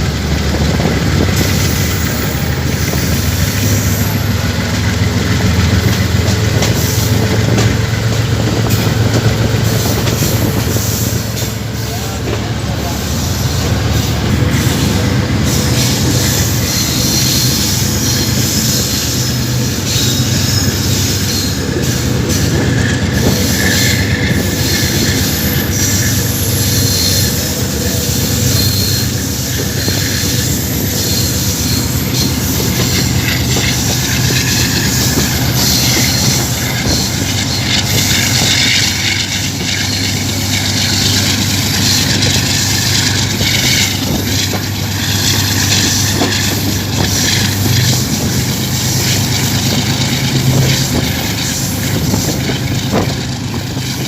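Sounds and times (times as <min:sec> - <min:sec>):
low locomotive hum: 0:00.0 - 0:54.0
train wheels rolling on rails: 0:00.0 - 0:54.0.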